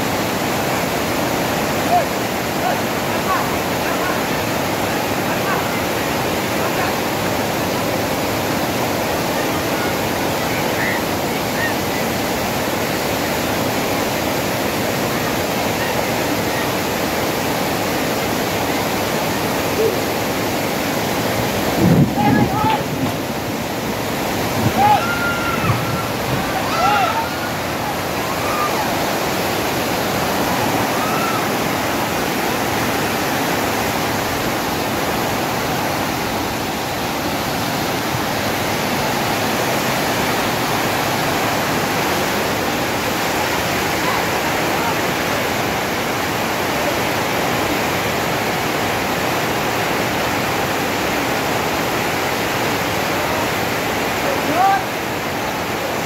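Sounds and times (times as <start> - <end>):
flood water rushing: 0.0 - 56.0
heavy rain falling: 0.0 - 56.0.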